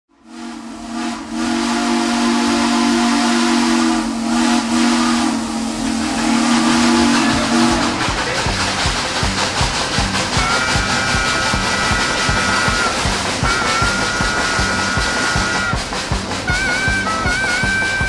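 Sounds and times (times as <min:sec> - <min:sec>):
hiss of steam: 0:00.2 - 0:18.0
steam locomotive whistle blast: 0:00.2 - 0:18.0.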